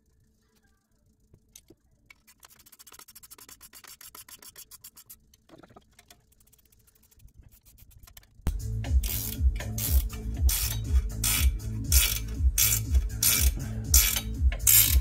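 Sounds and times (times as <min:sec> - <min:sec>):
rapid ratchet clicks and rasping: 0:00.9 - 0:15.0.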